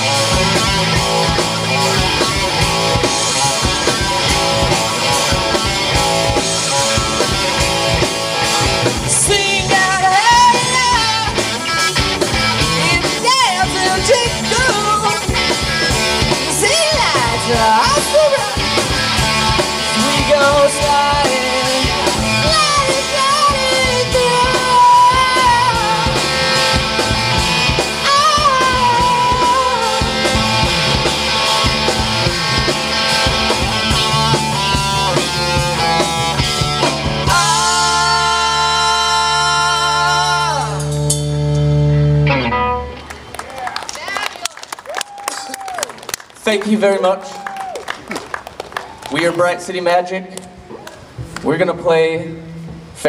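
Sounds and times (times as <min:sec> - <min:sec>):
live rock band playing: 0:00.0 - 0:47.4.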